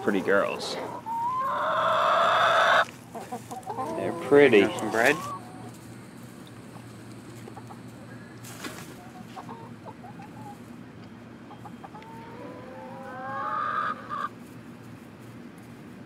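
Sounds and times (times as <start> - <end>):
hens clucking: 0.0 - 14.4.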